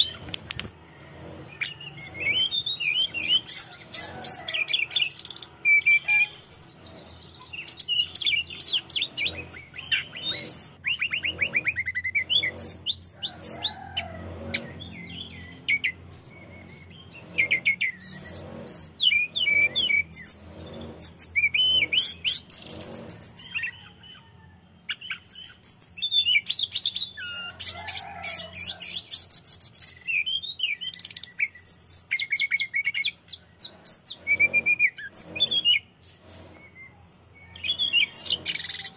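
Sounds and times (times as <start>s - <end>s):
bird singing whistles and trills: 1.6s - 13.6s, 14.9s - 27.7s, 28.9s - 38.9s.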